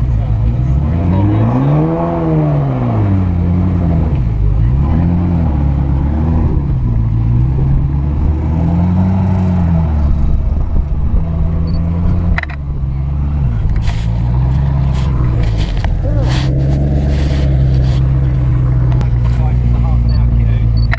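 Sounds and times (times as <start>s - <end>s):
car engine at low revs: 0.0s - 20.9s.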